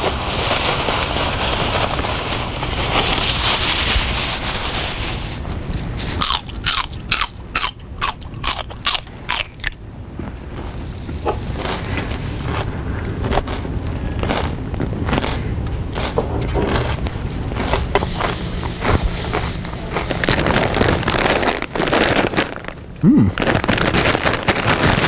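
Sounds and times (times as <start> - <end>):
chip bag crinkling: 0.0 - 25.0
chips crunching: 0.0 - 25.0.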